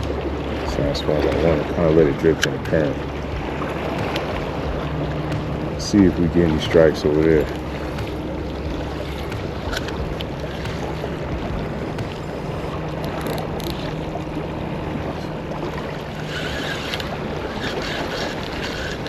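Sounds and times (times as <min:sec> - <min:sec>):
water noise: 0:00.0 - 0:19.0
wind buffeting microphone: 0:00.0 - 0:19.0.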